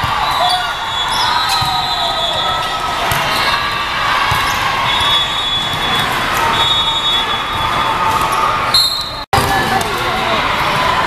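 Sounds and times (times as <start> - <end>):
busy indoor hall din: 0.0 - 11.0.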